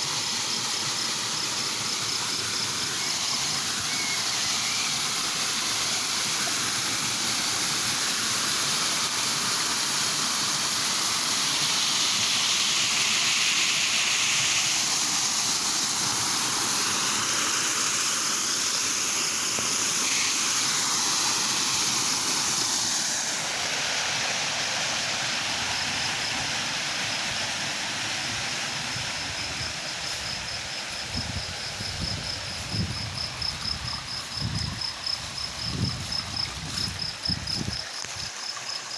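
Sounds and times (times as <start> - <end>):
stream water rushing: 0.0 - 38.9
high pulsing insect trill: 0.2 - 38.9.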